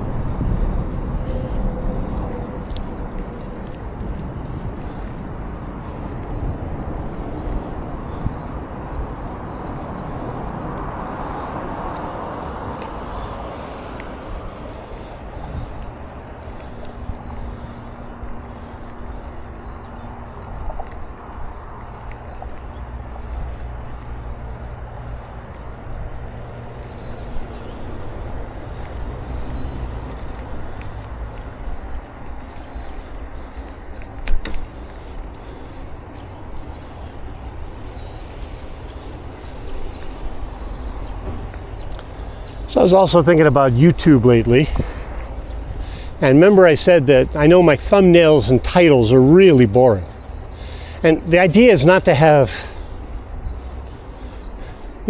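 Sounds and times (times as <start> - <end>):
bicycle rolling on trail: 0.0 - 55.0
wind buffeting microphone: 0.0 - 55.0.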